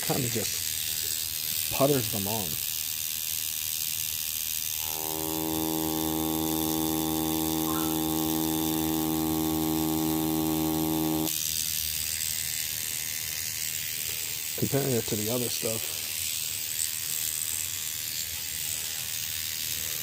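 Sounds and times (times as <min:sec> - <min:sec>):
tattoo machine buzzing: 0:00.0 - 0:20.0.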